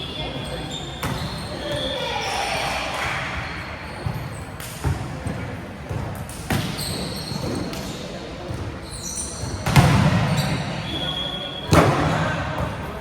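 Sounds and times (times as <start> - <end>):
volleyball smacks in a hall: 0.2 - 1.9, 2.6 - 13.0.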